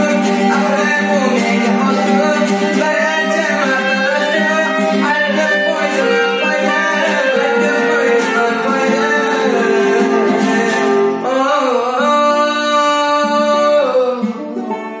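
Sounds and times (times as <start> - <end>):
clarinet: 0.0 - 13.8, 14.5 - 15.0
classical guitar: 0.0 - 15.0
man singing: 0.0 - 15.0.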